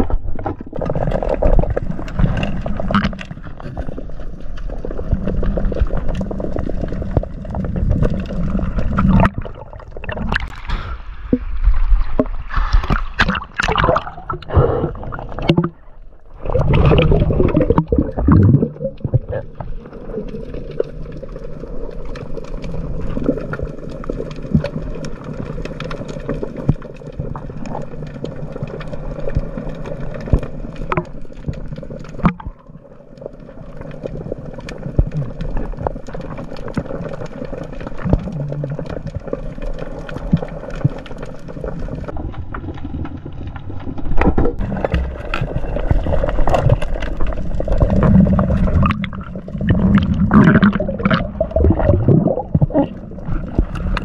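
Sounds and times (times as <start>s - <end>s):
small underwater clicks and crackles: 0.0s - 54.0s
underwater low rumble: 0.0s - 54.0s.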